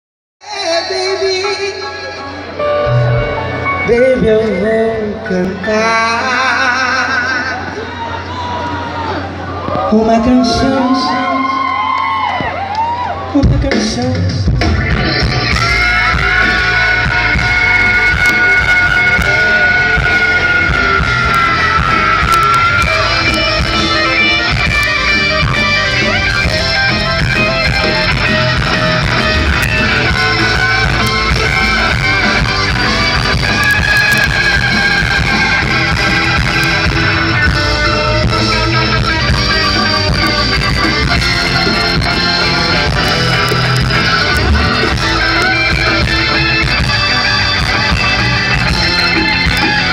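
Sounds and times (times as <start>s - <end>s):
electric guitar: 0.4s - 49.9s
live band playing: 0.4s - 49.9s.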